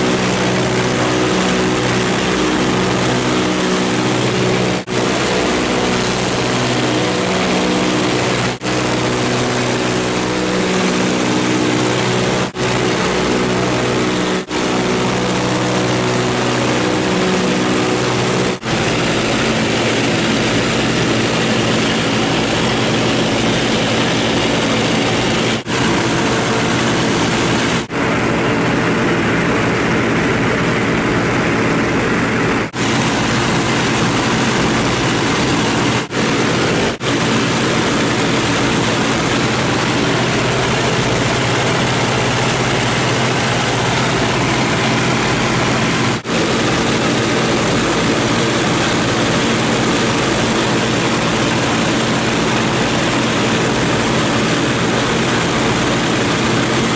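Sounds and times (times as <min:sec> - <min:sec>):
radial aircraft engines droning: 0:00.0 - 0:56.9.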